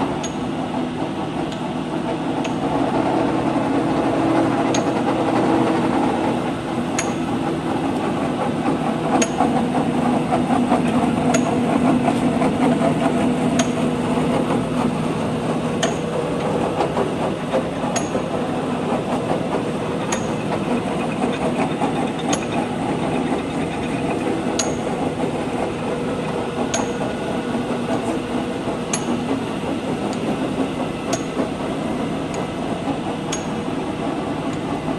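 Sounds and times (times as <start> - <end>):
lathe running: 0.0 - 34.9.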